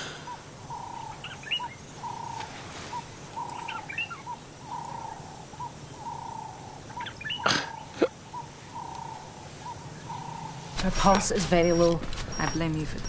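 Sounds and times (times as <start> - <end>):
bird calling: 0.0 - 13.0
steady background noise: 0.0 - 13.0.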